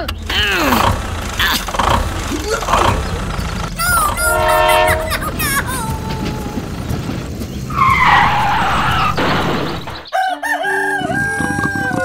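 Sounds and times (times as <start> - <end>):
rumbling noise: 0.0 - 10.1
skidding screech: 0.0 - 10.1.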